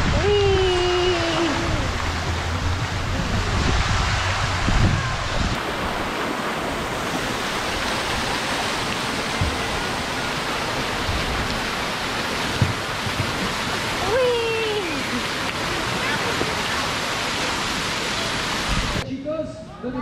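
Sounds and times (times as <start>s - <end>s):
water splashing down slide: 0.0s - 19.0s.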